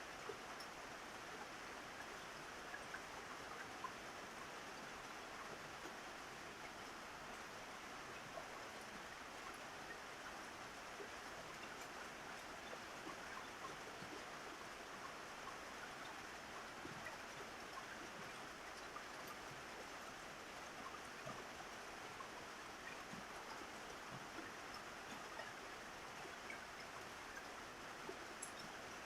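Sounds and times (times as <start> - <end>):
rain on a roof: 0.0 - 29.0.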